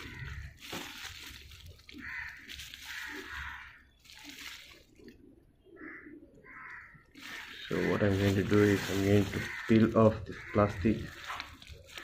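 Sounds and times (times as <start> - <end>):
plastic bag crinkling: 0.0 - 5.2, 7.1 - 12.0.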